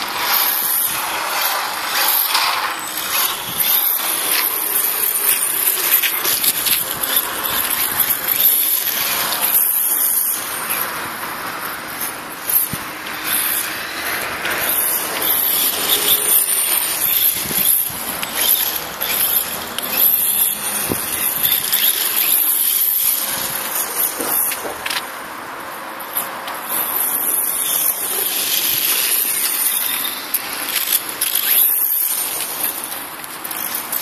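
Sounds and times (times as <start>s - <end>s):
radio-controlled truck motor: 0.0s - 25.2s, 26.0s - 34.0s.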